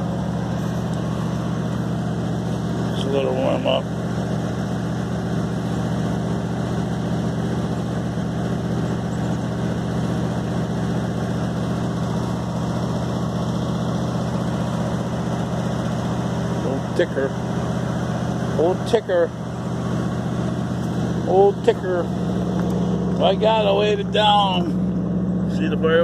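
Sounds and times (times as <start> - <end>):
pickup truck engine idling: 0.0 - 26.0.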